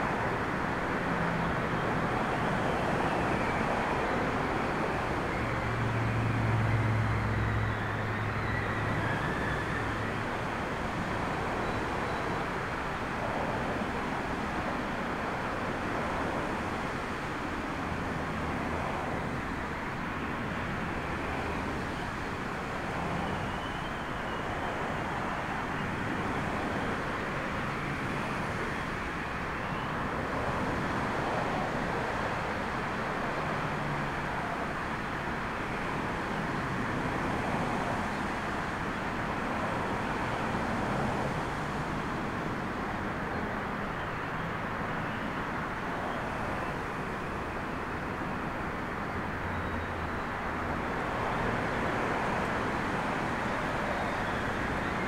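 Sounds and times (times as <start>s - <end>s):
traffic noise: 0.0s - 55.0s.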